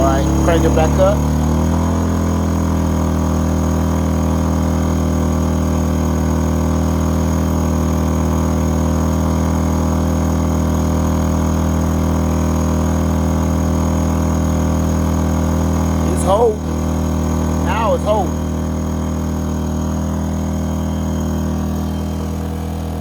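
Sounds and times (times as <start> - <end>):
generator running under load: 0.0 - 23.0.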